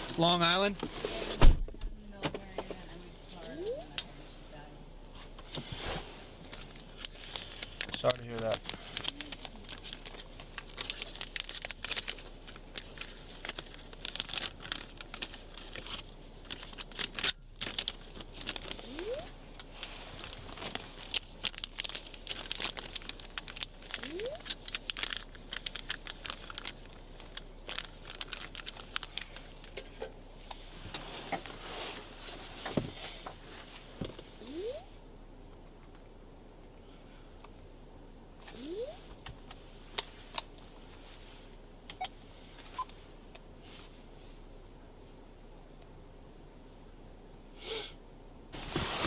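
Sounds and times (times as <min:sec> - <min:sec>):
rustling and crinkling handling noise: 0:00.0 - 0:34.8, 0:38.4 - 0:45.2, 0:48.5 - 0:49.0.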